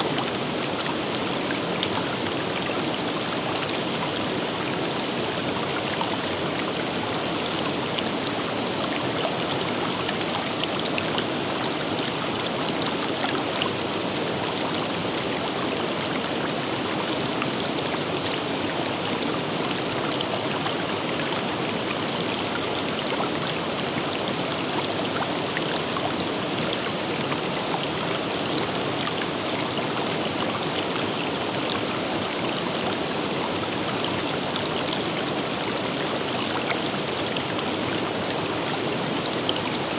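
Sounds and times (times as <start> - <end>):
river rushing and babbling: 0.0 - 39.9.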